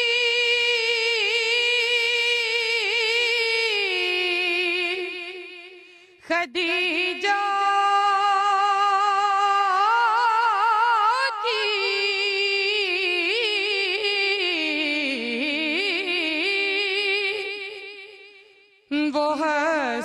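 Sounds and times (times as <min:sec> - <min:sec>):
person singing long note with vibrato: 0:00.0 - 0:20.0.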